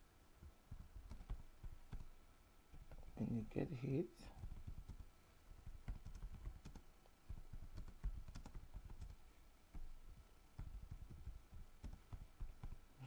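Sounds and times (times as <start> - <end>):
keyboard typing: 0.4 - 3.3, 4.4 - 12.8.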